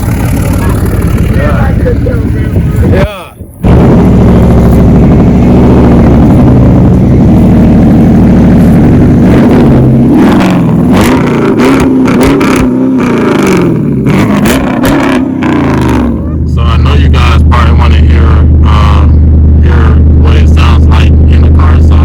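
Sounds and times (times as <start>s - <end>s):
car exhaust revving: 0.0s - 22.0s
exhaust cracks: 0.0s - 22.0s.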